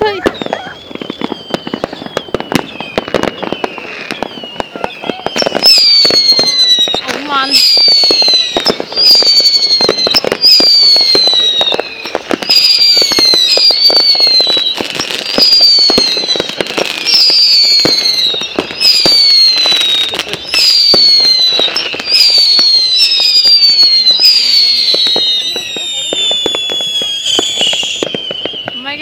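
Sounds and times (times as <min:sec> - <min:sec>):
crackling firework pops: 0:00.0 - 0:29.0
whistling fireworks: 0:00.0 - 0:29.0.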